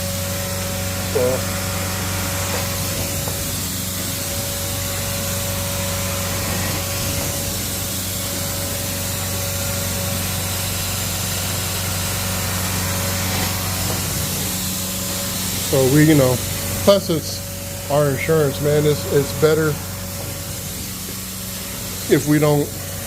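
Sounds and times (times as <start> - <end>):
extraction machine vacuum hissing: 0.0 - 23.0.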